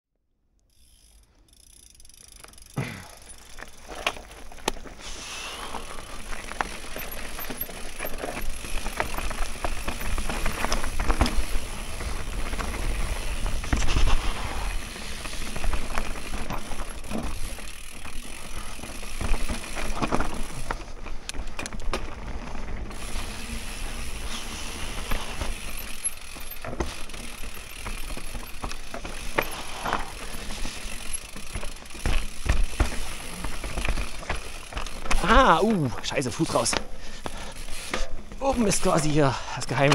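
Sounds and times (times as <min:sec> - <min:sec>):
bike rattling over bumps: 0:00.7 - 0:39.9
bike tyres on dirt: 0:00.7 - 0:39.9.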